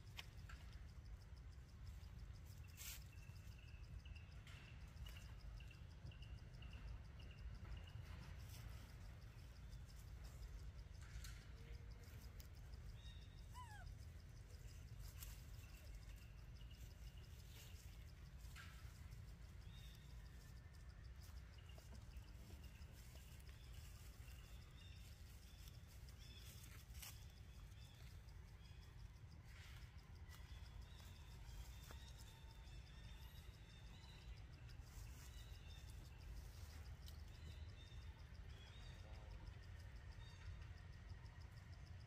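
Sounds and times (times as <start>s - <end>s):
faint high chirps: 0.0s - 40.8s.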